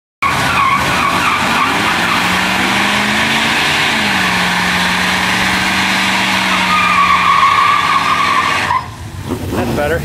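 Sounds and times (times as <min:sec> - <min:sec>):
engine revving high: 0:00.2 - 0:09.6
tires squealing on pavement: 0:00.2 - 0:09.9.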